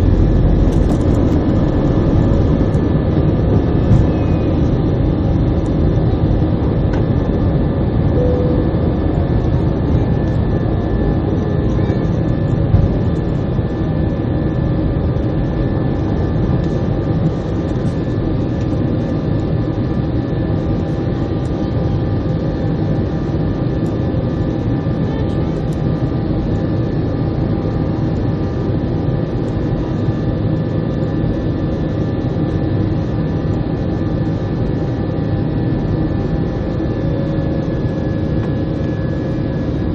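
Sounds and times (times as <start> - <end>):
jet engines in cabin: 0.0 - 39.9.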